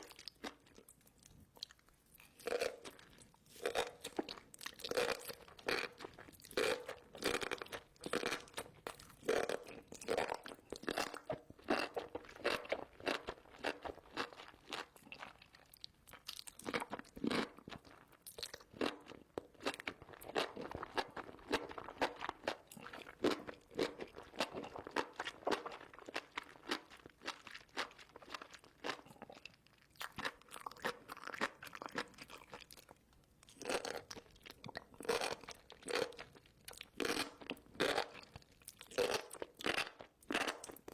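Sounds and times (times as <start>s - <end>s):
wet crunchy chewing: 0.0s - 40.9s.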